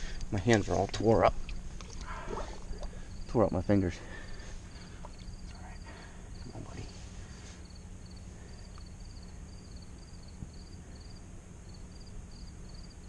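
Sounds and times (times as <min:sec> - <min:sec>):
faint low hum: 0:00.0 - 0:13.0
insects chirping: 0:00.0 - 0:13.0.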